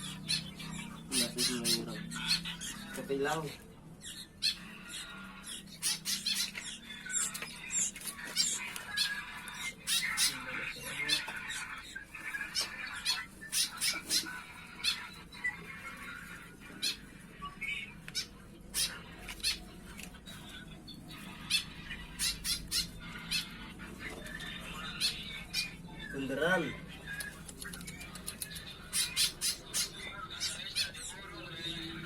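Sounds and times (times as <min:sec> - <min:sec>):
bird chicks calling: 0:00.0 - 0:32.0.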